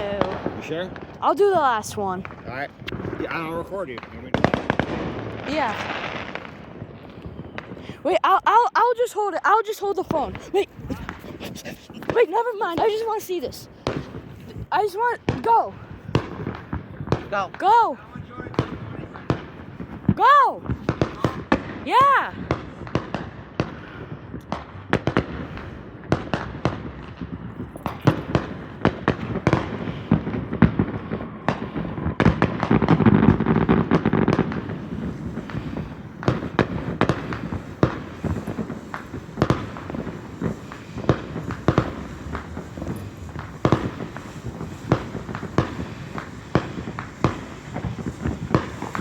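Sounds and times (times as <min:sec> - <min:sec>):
fireworks popping and crackling: 0:00.0 - 0:49.0.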